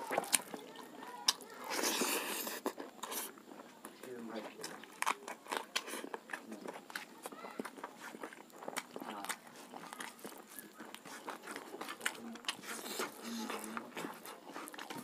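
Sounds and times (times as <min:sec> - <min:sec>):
chewing and wet mouth smacks: 0:00.0 - 0:15.0
fingers mixing food on plate: 0:00.0 - 0:15.0.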